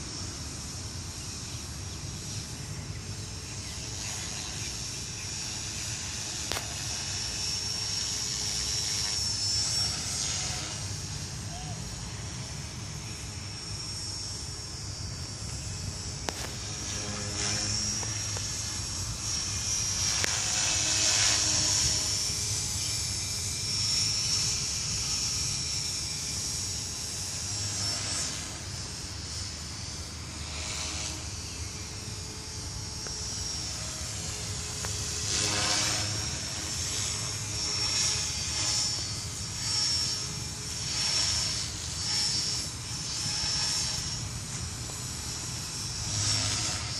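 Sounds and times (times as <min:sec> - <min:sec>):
rc helicopter whine: 0:00.0 - 0:46.9.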